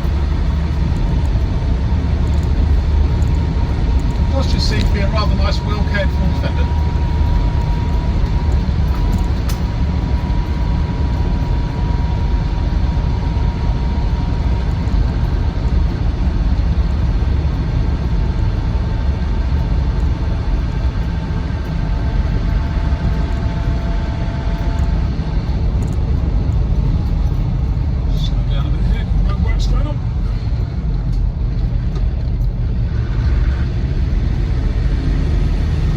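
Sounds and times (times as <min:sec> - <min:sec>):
faint steady whine: 0:00.0 - 0:35.5
diesel engine rumble inside cab: 0:00.0 - 0:35.9
road noise: 0:00.0 - 0:35.9.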